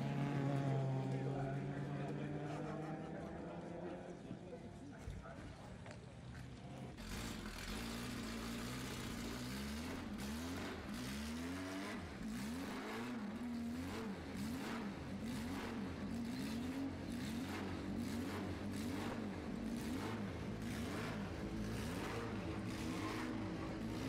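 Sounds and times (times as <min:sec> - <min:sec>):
racing car engine revving: 0:00.0 - 0:04.2, 0:07.0 - 0:24.0.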